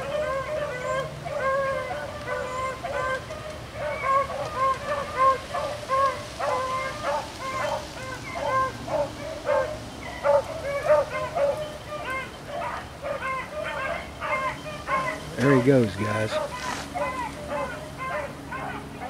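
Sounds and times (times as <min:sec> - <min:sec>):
hounds baying: 0:00.0 - 0:19.0.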